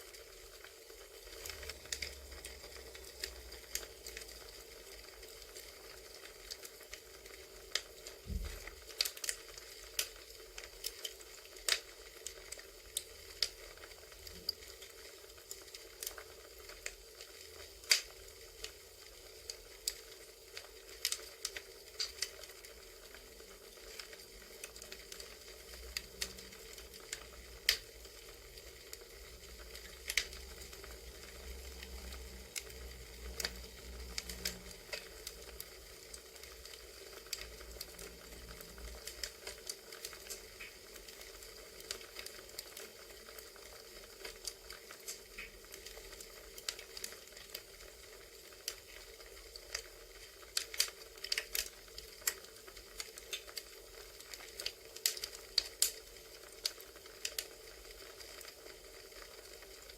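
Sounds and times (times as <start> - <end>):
campfire crackling and popping: 0.0 - 59.9
soft fire hiss: 0.0 - 59.9.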